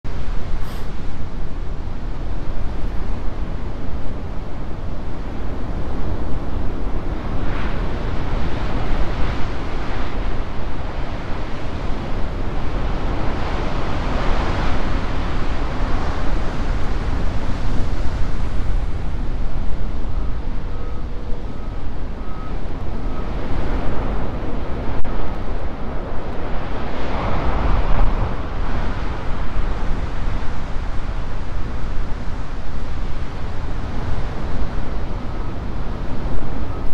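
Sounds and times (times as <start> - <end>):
wind buffeting microphone: 0.1 - 36.9.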